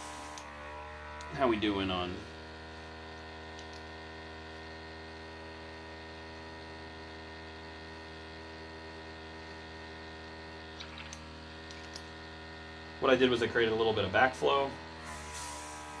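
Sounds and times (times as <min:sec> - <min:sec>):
compressor motor humming: 0:00.0 - 0:16.0.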